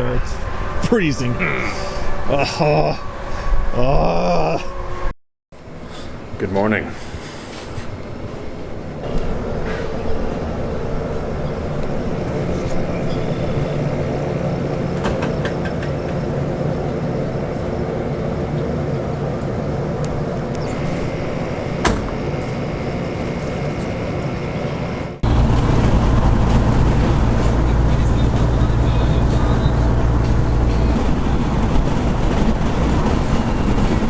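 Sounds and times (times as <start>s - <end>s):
car engine and road noise: 0.0s - 3.8s, 7.5s - 34.0s
deep engine sound: 0.0s - 6.4s, 8.0s - 34.0s.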